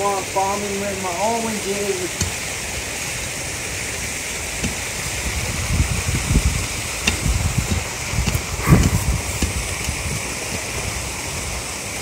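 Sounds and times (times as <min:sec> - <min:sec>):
low rumbles: 0:02.1 - 0:11.8.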